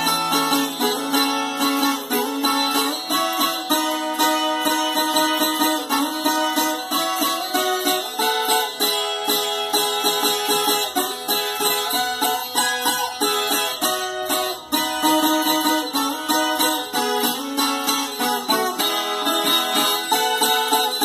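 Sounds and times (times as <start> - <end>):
plucked folk guitar: 0.0 - 21.0.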